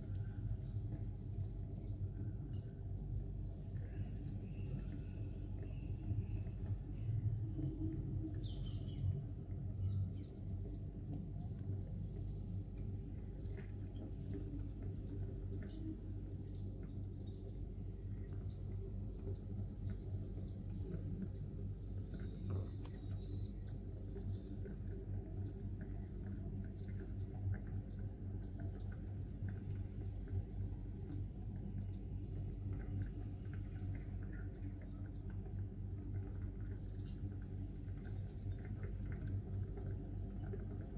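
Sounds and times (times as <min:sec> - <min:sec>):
steady low hum: 0:00.0 - 0:40.9
sparrows chirping: 0:00.1 - 0:40.9.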